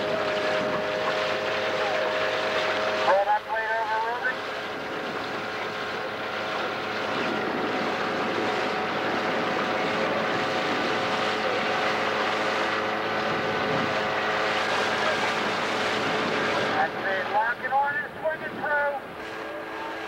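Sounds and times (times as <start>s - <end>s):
outboard motor humming: 0.0s - 20.0s
wind: 0.0s - 20.0s.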